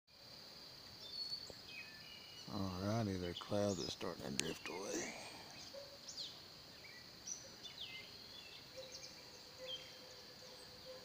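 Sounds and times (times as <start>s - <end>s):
bird chirps: 1.0s - 11.0s.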